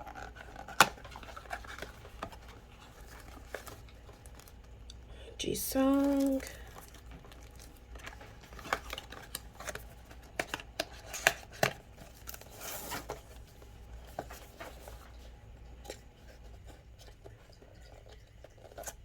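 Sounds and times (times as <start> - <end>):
packaging rustle: 0.0 - 4.9, 5.8 - 19.0.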